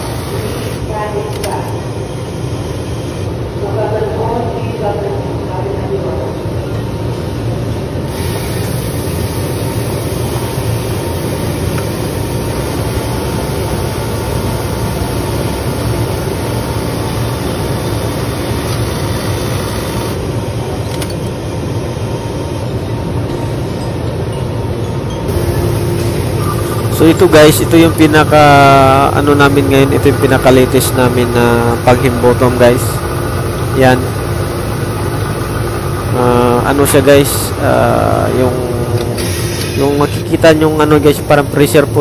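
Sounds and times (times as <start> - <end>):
sewing machine whirring: 0.0 - 3.4, 8.0 - 22.5, 25.3 - 42.0.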